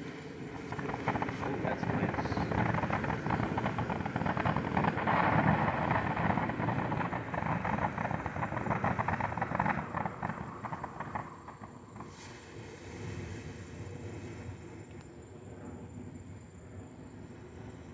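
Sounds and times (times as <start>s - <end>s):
firework fountain hissing and crackling: 0.0s - 17.9s.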